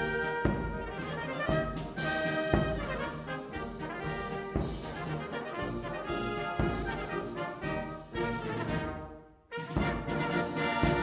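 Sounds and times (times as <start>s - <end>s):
brass instrumental music: 0.0s - 11.0s.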